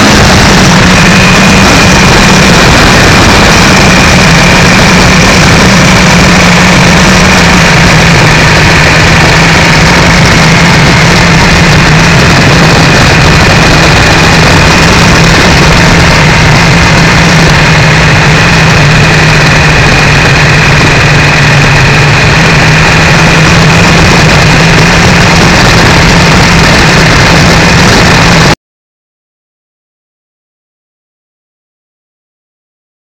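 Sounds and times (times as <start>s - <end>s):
motorcycle engine running steadily: 0.0s - 28.6s
wind noise: 0.0s - 28.6s.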